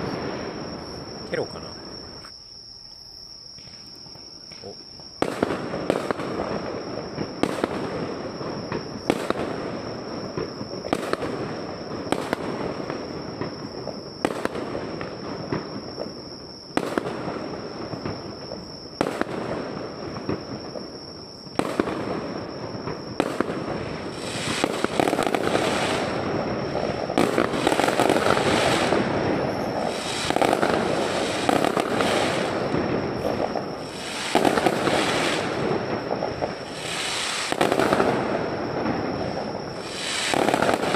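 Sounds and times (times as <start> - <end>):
fireworks crackling: 0.0 - 2.3, 3.6 - 40.9
fireworks bursting: 0.0 - 2.4, 3.5 - 40.9.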